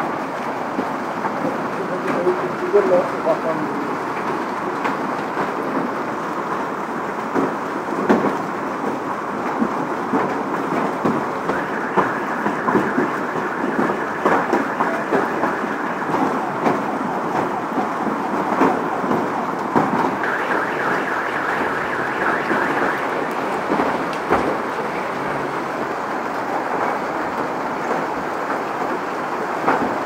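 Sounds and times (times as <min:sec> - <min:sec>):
hail clattering on pavement: 0:00.0 - 0:30.0.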